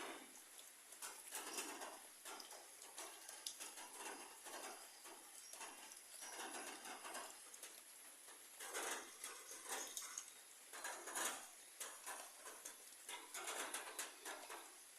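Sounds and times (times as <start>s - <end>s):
faint rain on leaves: 0.0s - 14.9s.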